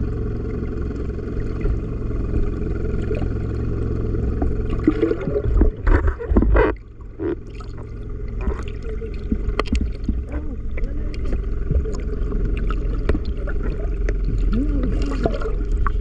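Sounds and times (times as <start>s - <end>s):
small boat engine running: 0.0s - 16.0s
water noise: 0.0s - 16.0s.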